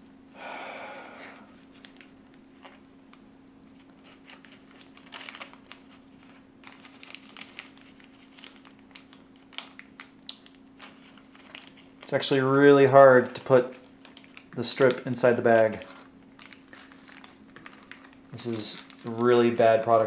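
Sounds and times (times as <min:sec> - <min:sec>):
faint steady hum: 0:00.0 - 0:20.0
plastic bag crinkling: 0:03.8 - 0:20.0.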